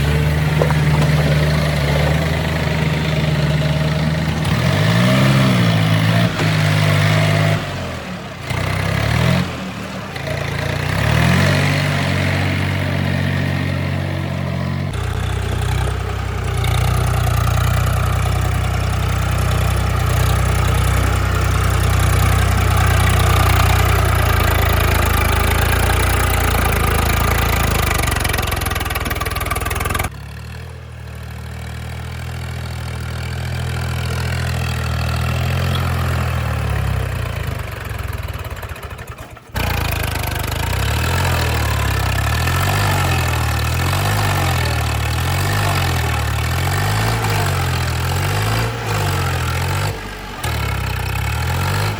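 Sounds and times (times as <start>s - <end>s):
tractor diesel engine revving: 0.0s - 51.9s.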